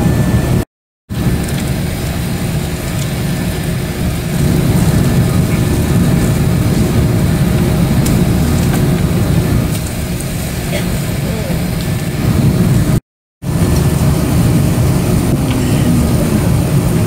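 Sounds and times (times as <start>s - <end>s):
aircraft rumble in cabin: 0.0s - 17.0s.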